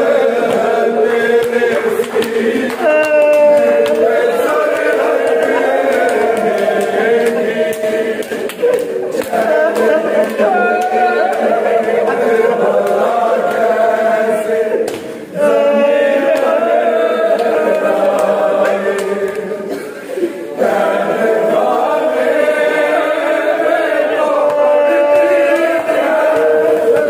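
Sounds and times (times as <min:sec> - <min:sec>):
group chanting a lament: 0:00.0 - 0:27.0.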